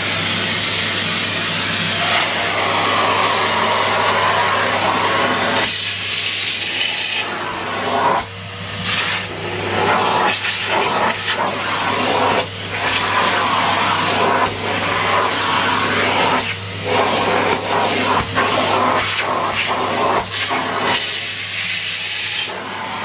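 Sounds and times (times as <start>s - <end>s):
vacuum cleaner on carpet: 0.0s - 23.0s.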